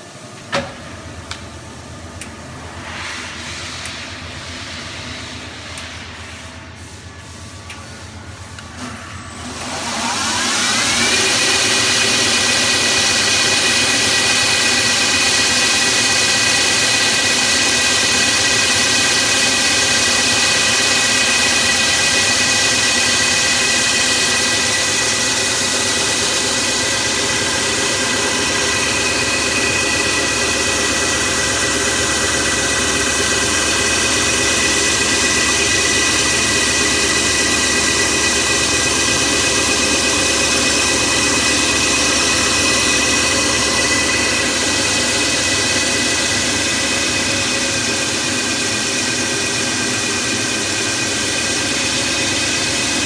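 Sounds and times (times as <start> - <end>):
sanding machine running with whine: 9.3 - 53.0.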